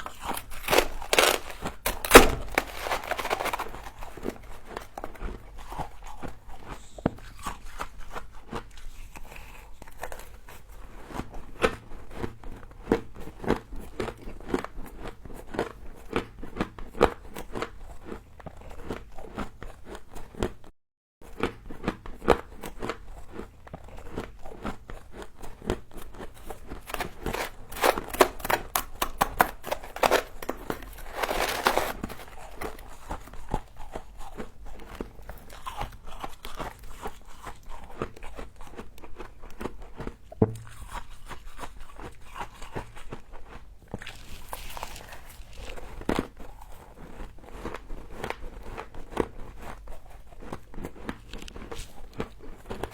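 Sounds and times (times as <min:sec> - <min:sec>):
crunching of frost being chewed: 0:00.0 - 0:20.6, 0:21.3 - 0:52.9.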